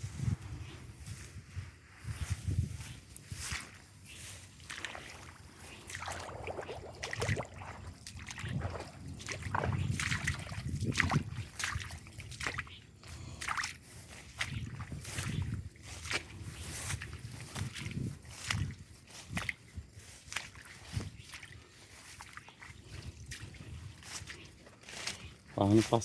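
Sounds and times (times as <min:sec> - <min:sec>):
footsteps sloshing through water: 0:02.2 - 0:26.0.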